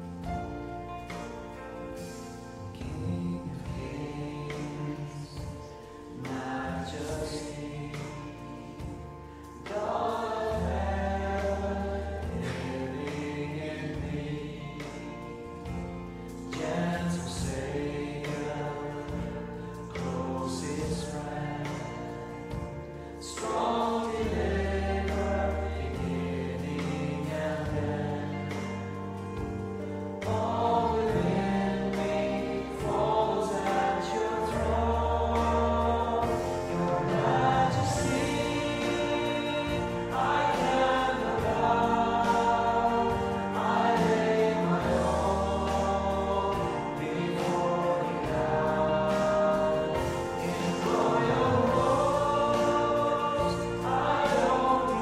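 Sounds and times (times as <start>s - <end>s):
congregation singing: 0.0s - 55.0s
instrumental accompaniment bass notes: 0.0s - 55.0s.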